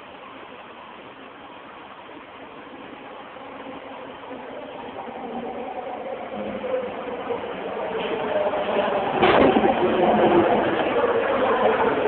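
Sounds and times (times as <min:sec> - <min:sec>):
train rolling noise: 0:00.0 - 0:12.0.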